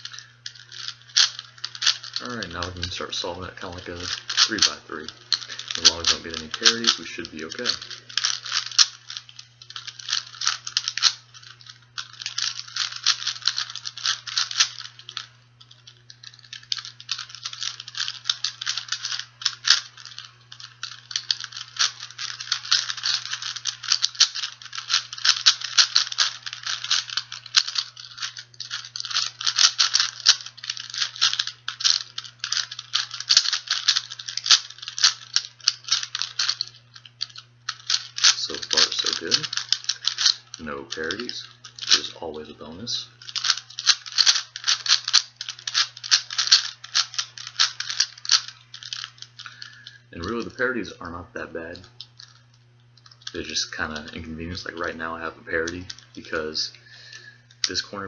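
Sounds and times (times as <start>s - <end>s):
puzzle cube clicking: 0.0s - 52.4s, 53.0s - 58.0s.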